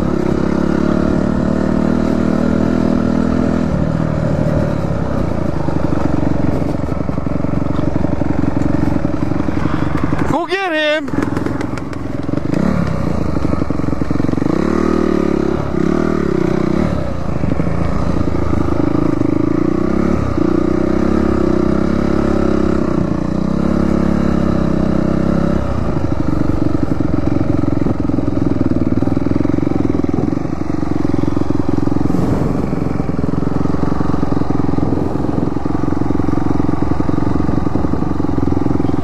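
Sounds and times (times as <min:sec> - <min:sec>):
dirt bike engine running hard: 0:00.0 - 0:39.0.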